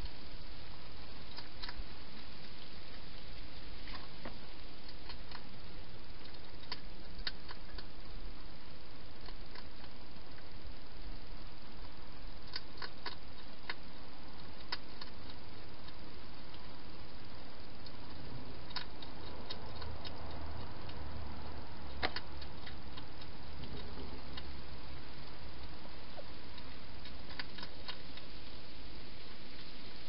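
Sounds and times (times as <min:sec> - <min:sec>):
hedgehog chewing crunchily: 0:00.0 - 0:30.0
steady hiss: 0:00.0 - 0:30.0.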